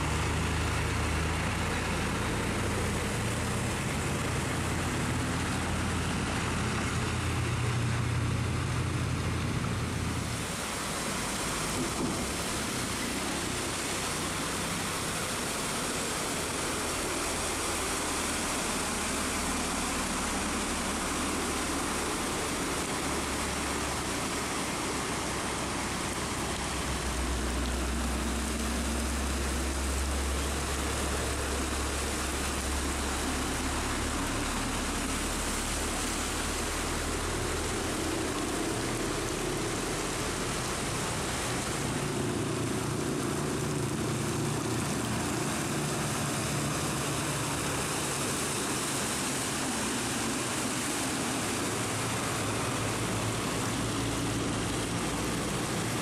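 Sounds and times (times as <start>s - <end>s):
heavy rain hissing: 0.0s - 56.0s
truck engines rumbling: 0.0s - 56.0s.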